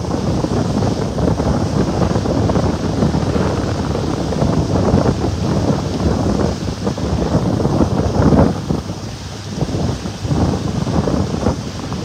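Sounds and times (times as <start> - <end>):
boat running noise: 0.0 - 12.0
water beneath boat: 0.0 - 12.0
wind buffeting microphone: 0.0 - 12.0.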